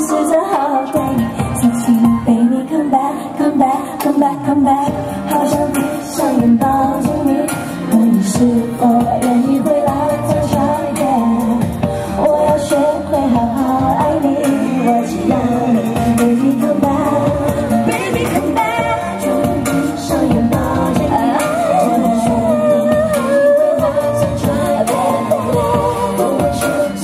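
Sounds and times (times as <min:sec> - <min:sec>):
recorded backing track: 0:00.0 - 0:27.0
woman singing into a microphone: 0:00.0 - 0:27.0.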